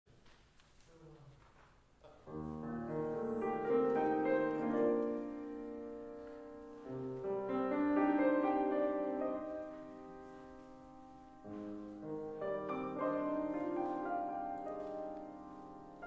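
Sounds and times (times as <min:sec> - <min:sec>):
grand piano chords: 0:02.2 - 0:16.0.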